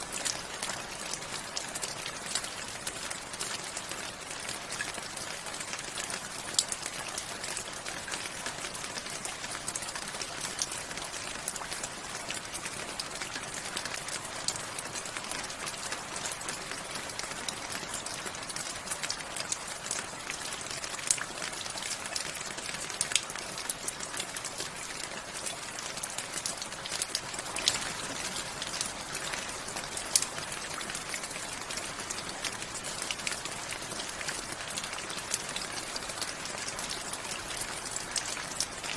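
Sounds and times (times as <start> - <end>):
raindrops pattering: 0.0 - 38.9
steady rain falling: 0.0 - 38.9.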